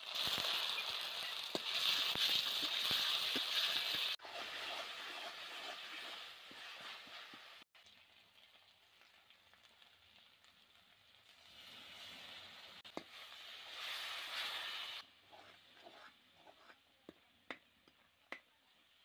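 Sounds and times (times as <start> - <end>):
masala sizzling in a pan: 0.0 - 16.7.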